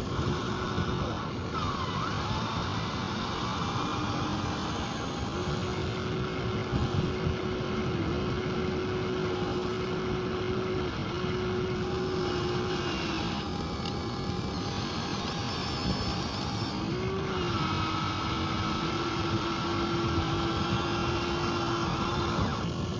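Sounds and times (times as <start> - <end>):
model truck motor whine: 0.0 - 22.9.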